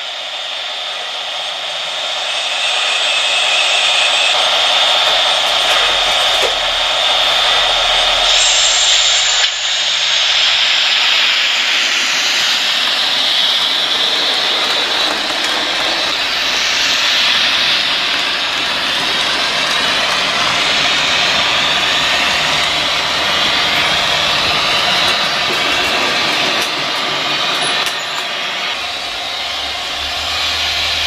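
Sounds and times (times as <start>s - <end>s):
model trains running on track: 0.0s - 31.0s.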